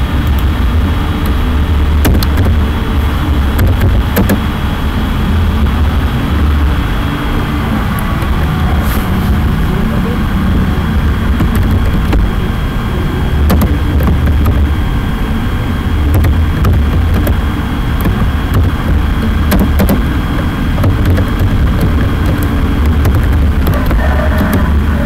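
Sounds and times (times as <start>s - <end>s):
loud steady low rumble: 0.0s - 25.0s.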